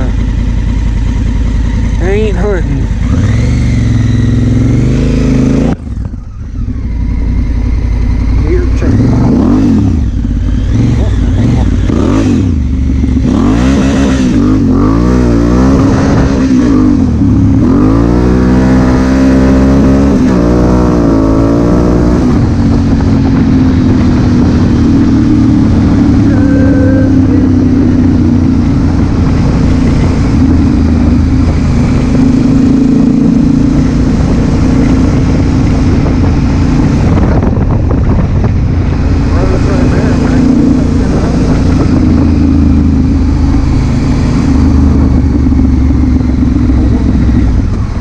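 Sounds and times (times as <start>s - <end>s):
motorcycle engine revving: 0.0s - 48.0s
rush of noise: 2.0s - 48.0s.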